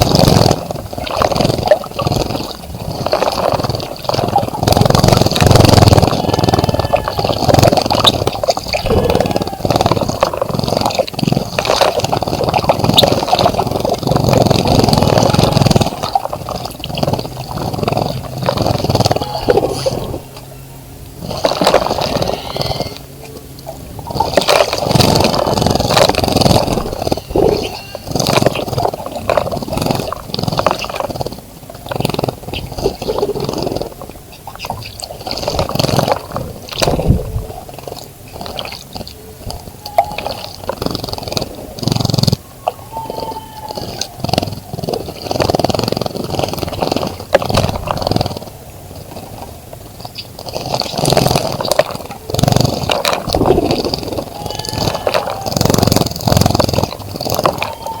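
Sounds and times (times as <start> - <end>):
birds splashing in water: 0.0 - 58.0.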